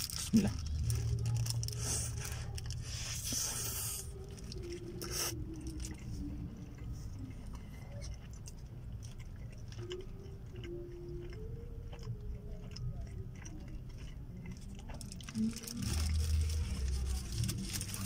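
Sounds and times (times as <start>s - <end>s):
low rumble inside car: 0.0s - 18.0s
person chewing: 0.0s - 18.0s.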